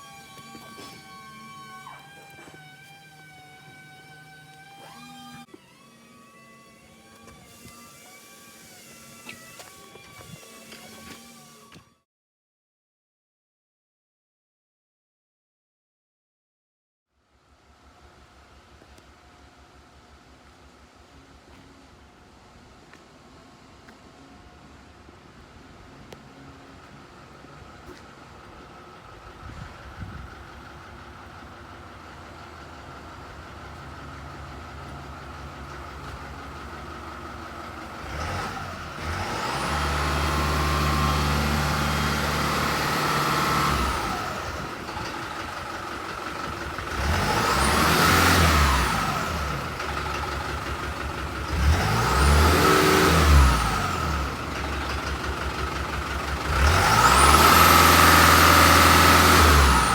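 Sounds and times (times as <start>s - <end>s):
truck engine idling and revving: 0.0s - 11.6s, 17.7s - 59.9s.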